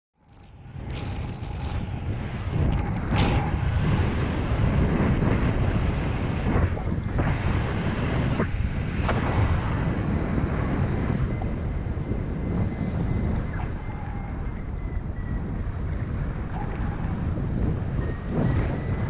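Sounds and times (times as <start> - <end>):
wind buffeting microphone: 0.2 - 19.0.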